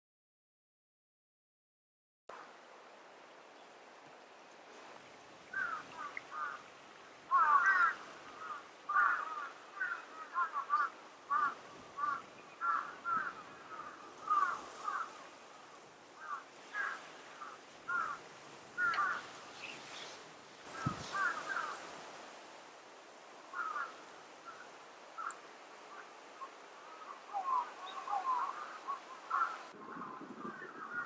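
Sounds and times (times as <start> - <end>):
wild birds calling: 4.6 - 22.2, 23.4 - 31.0.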